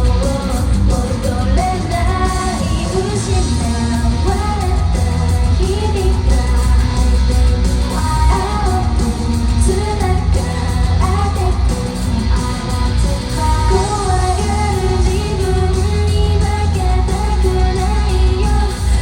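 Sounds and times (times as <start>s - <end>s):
heavy bass and drums: 0.0s - 19.0s
woman singing: 0.0s - 19.0s.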